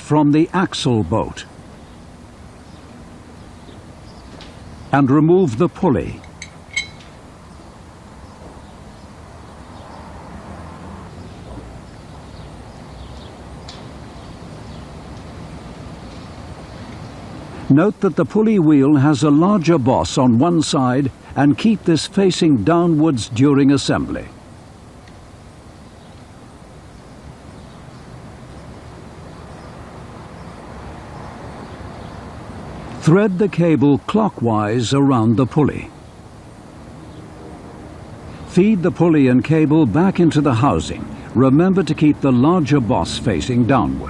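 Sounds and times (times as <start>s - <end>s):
background hum and hiss: 0.0s - 44.0s.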